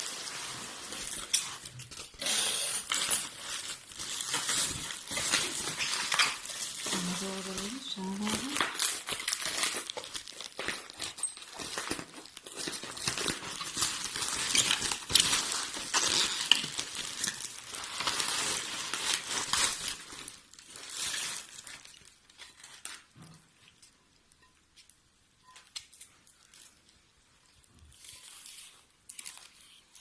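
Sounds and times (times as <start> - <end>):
packaging crinkling and rustling: 0.0 - 30.0.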